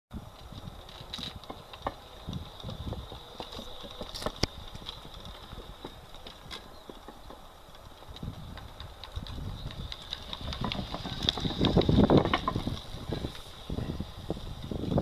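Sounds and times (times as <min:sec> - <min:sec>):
low rumbles: 0:00.1 - 0:15.0
electric bike motor whine: 0:00.2 - 0:15.0
wheel and frame clicks and knocks: 0:00.2 - 0:15.0.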